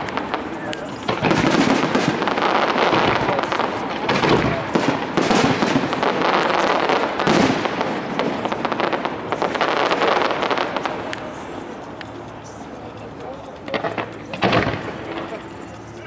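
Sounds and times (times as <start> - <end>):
firework bangs and crackling: 0.0 - 16.0.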